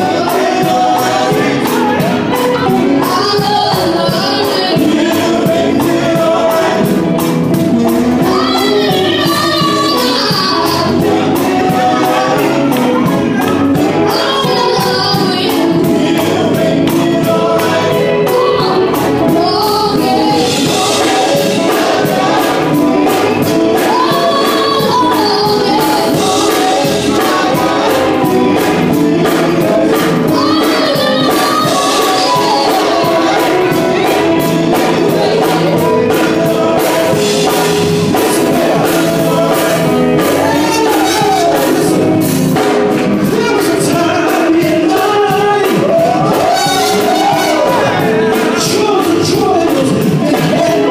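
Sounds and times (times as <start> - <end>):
guitar: 0.0 - 50.9
male vocal group singing: 0.0 - 50.9
steady beat: 0.0 - 50.9.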